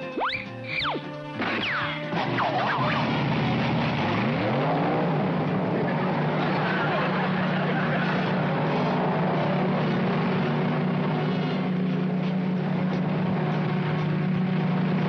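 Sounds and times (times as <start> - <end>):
cartoon car engine drone: 0.0 - 15.0.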